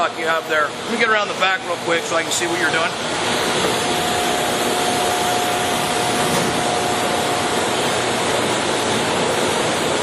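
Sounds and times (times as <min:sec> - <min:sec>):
lathe running: 0:00.3 - 0:09.3.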